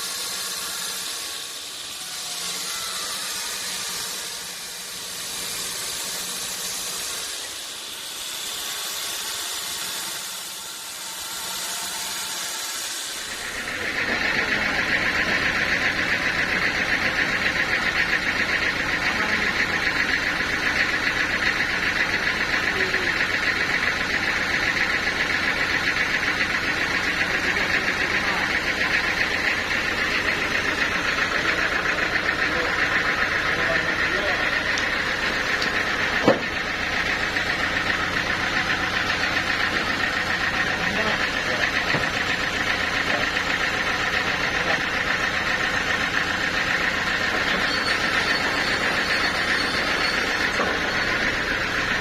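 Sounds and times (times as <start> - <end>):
sawmill machinery drone: 0.0 - 52.0.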